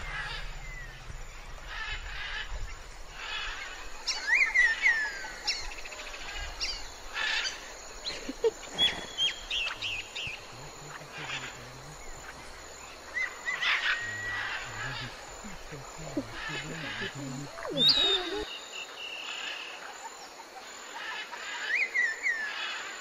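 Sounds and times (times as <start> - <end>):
birds chirping and whistling: 0.0 - 11.4, 12.0 - 19.3
outdoor background noise: 0.0 - 23.0.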